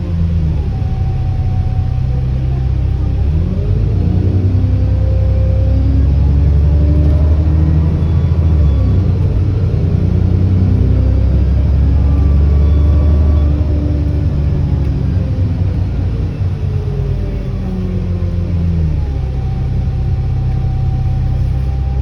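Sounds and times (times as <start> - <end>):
bus engine rumbling: 0.0 - 22.0
faint turbo whine: 0.0 - 22.0.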